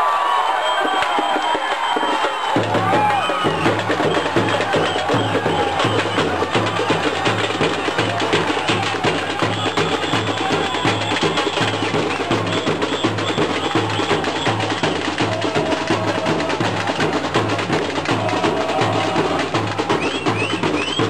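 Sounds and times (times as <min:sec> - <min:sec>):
dense clicking percussion: 0:00.8 - 0:21.0.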